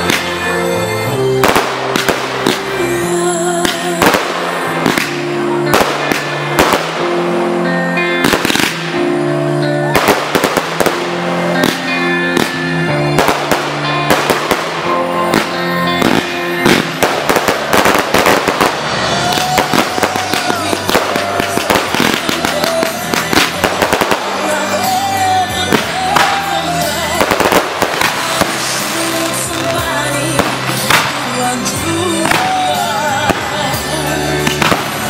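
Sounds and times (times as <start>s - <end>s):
fireworks bangs and crackles: 0.0s - 9.2s, 9.9s - 35.0s
music playing: 0.0s - 35.0s.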